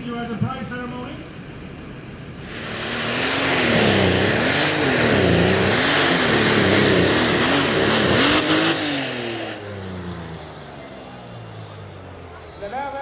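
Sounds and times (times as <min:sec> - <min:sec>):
tractor engine at full throttle: 0:01.3 - 0:13.0.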